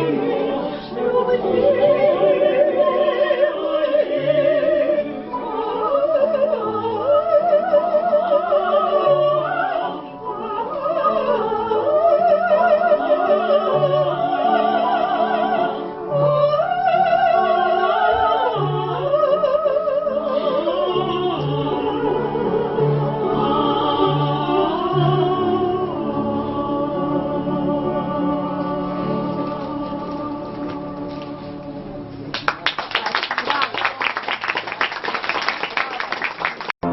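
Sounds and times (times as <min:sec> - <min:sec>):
operatic singing with vibrato: 0:00.0 - 0:31.6.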